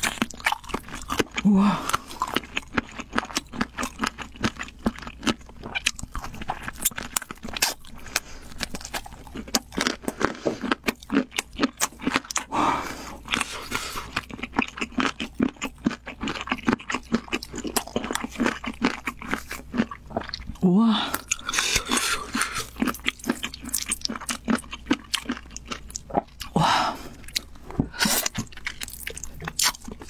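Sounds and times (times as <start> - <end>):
chewing with mouth clicks: 0.0 - 12.5, 13.1 - 30.0.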